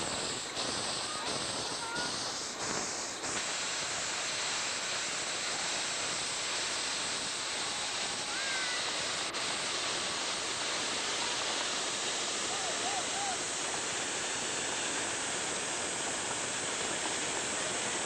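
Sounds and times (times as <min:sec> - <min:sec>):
steam hissing from locomotive: 0:00.0 - 0:18.0.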